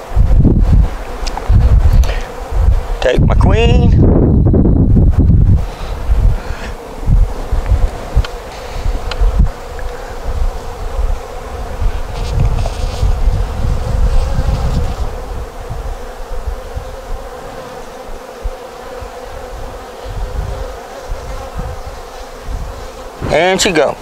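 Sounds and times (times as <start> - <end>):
honey bees humming: 0.0 - 24.0.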